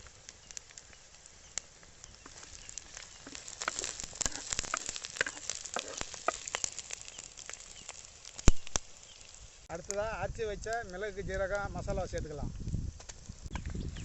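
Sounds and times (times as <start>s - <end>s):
frying sizzle: 0.0s - 14.0s
leaves crackling in hot oil: 0.0s - 14.0s.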